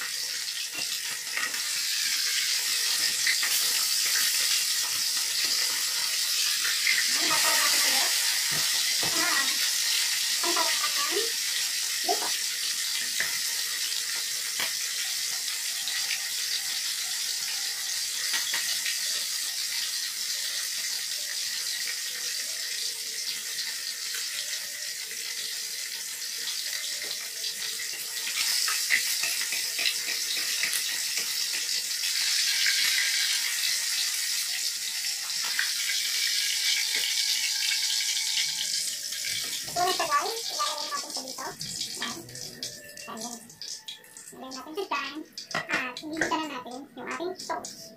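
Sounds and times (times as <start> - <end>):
fish deep-frying in oil: 0.0 - 47.9.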